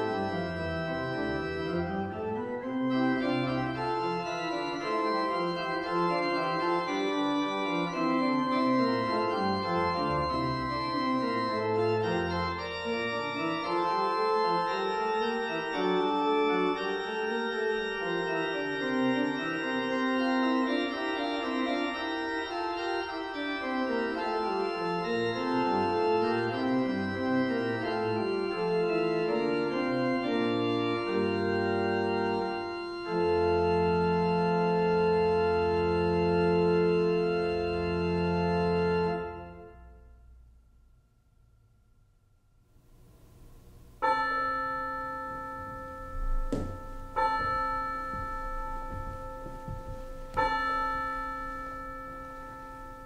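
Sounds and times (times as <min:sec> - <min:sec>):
church organ chords: 0:00.0 - 0:40.2, 0:42.9 - 0:53.0.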